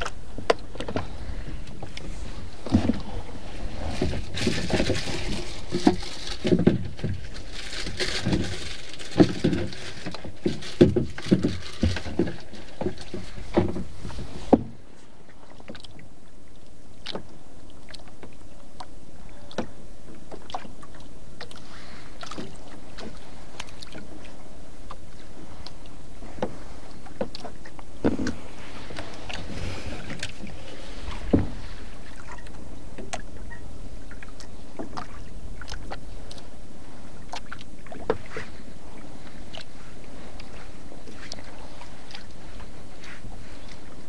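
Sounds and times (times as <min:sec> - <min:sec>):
open sea ambience hiss: 0:00.0 - 0:44.0.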